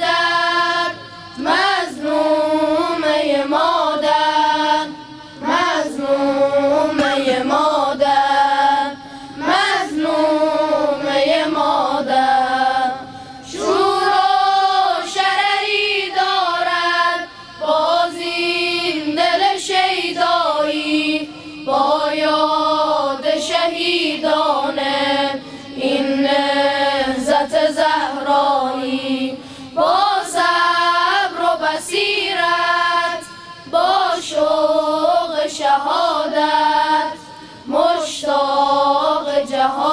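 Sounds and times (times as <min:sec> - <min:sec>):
boys' choir chanting: 0:00.0 - 0:39.9.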